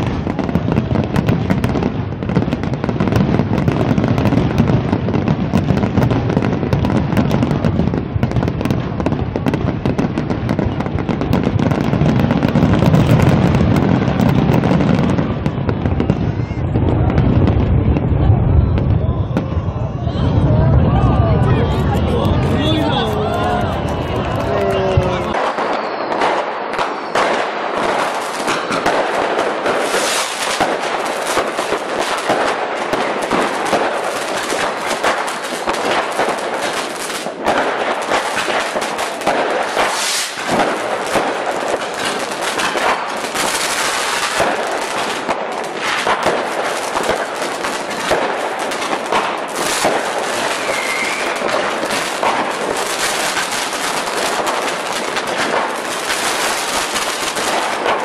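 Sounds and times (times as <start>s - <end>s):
fireworks crackling pops: 0.0s - 20.2s, 21.3s - 58.0s.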